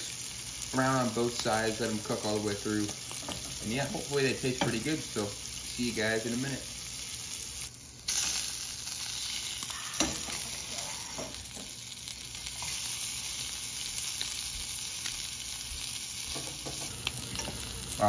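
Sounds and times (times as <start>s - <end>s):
frog legs sizzling in hot oil: 0.0s - 18.0s.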